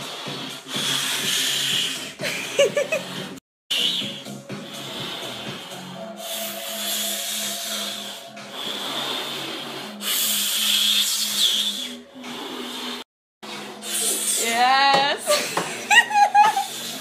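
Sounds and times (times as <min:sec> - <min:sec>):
person blowing up balloon: 0:00.0 - 0:14.7, 0:16.0 - 0:17.0
quiet background music: 0:00.0 - 0:17.0.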